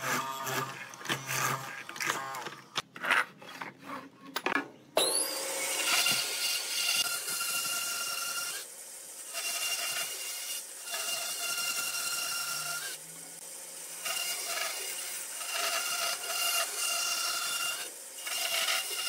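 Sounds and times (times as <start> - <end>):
power tool whining on wood: 0.0 - 2.8, 5.0 - 19.0.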